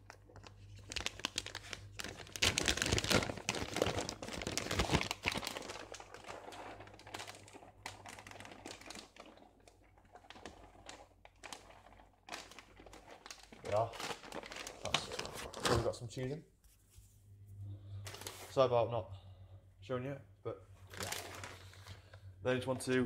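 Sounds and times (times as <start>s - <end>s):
plastic packet crinkling: 0.0s - 16.3s, 18.1s - 18.6s, 20.8s - 23.0s.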